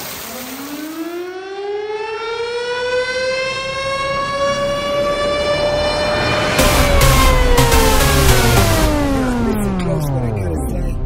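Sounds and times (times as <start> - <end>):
siren winding up: 0.8 - 11.0.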